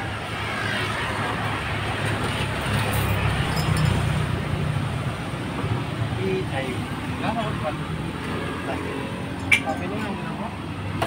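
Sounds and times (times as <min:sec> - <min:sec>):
motorbikes passing: 0:00.0 - 0:11.0.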